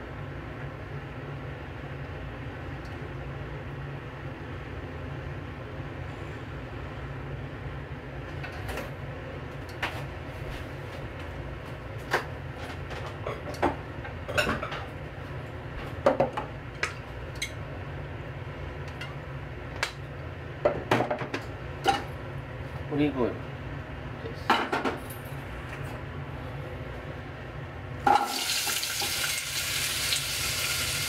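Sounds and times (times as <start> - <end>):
gas burner hum: 0.0 - 31.0.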